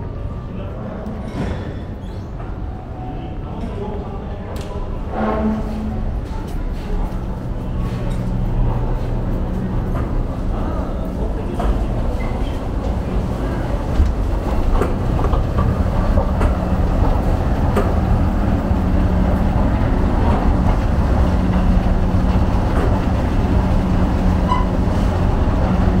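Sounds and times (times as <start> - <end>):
escalator rumble and hum: 0.0 - 26.0.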